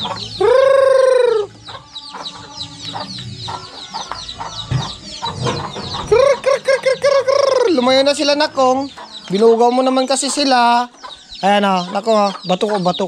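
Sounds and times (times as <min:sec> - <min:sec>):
chickens chirping and clucking: 0:00.0 - 0:13.0.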